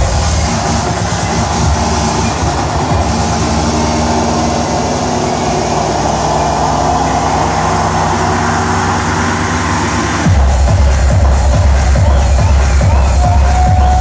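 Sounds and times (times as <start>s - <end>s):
techno synth drones: 0.0s - 14.0s.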